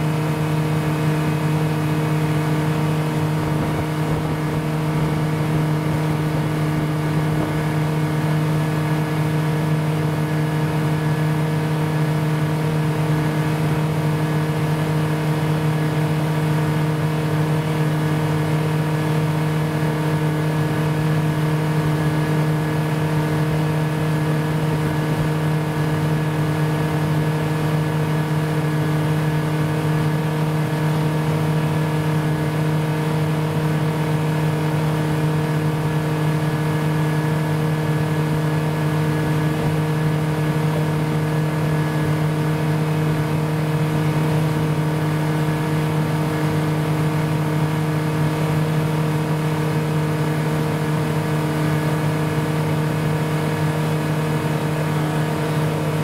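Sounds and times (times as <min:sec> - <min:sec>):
motorboat engine humming: 0:00.0 - 0:56.0.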